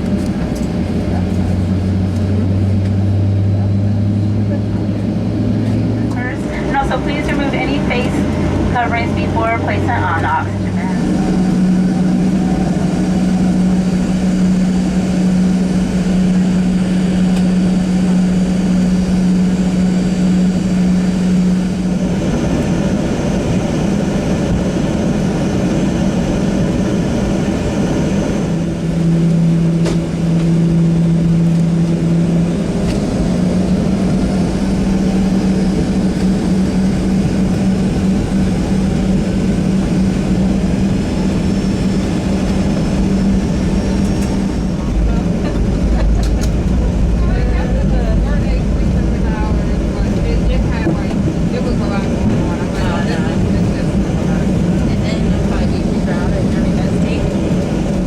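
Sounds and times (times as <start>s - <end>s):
jet engine hum in cabin: 0.0s - 58.0s.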